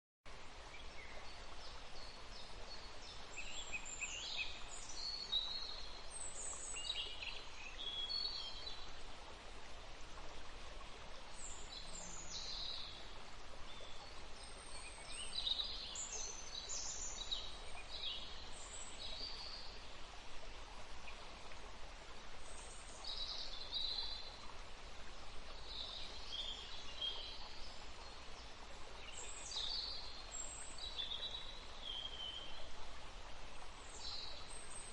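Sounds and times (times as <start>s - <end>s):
stream rushing: 0.3s - 34.9s.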